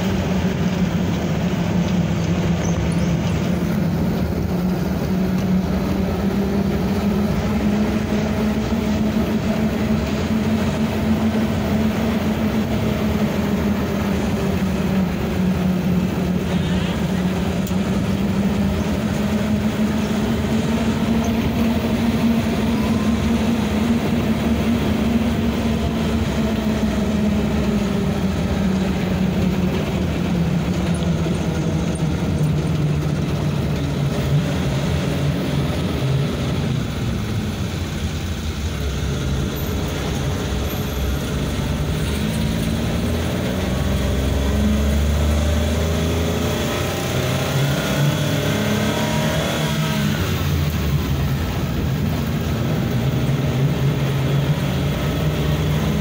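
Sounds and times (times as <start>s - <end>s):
pickup truck engine running: 0.0s - 56.0s
road and wind noise: 0.0s - 56.0s.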